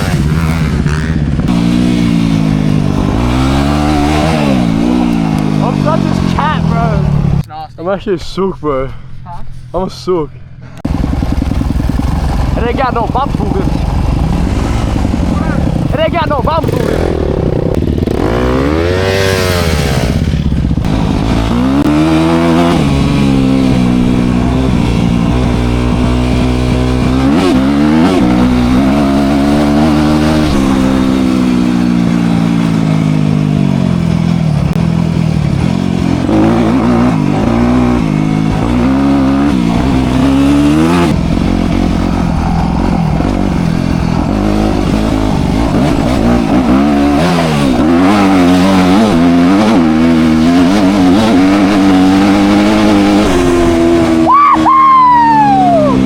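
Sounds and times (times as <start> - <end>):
dirt bike engine revving: 0.0 - 7.5, 10.9 - 56.0.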